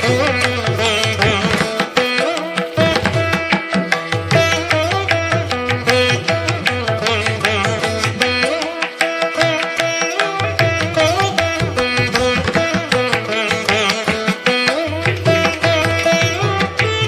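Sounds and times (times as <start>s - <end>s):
plucked string melody: 0.0s - 17.0s.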